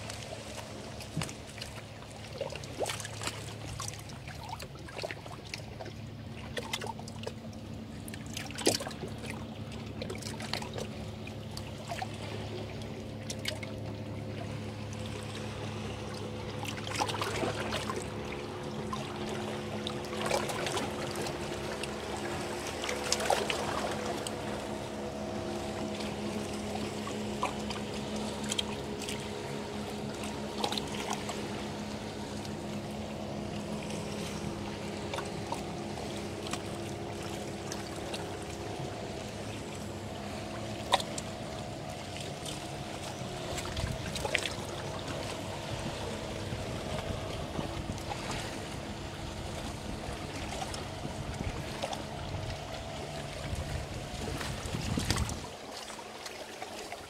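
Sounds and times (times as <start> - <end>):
boat engine droning: 0.0 - 57.0
sea water wash: 0.0 - 57.0.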